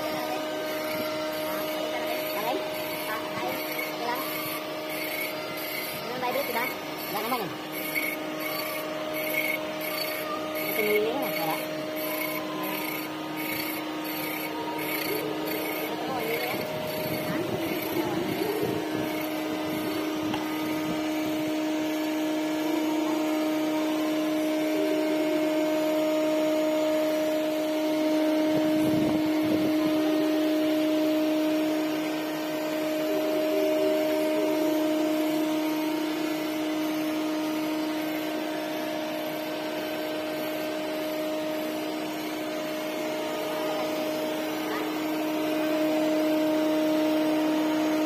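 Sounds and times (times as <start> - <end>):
boring machine hum: 0.0 - 48.0.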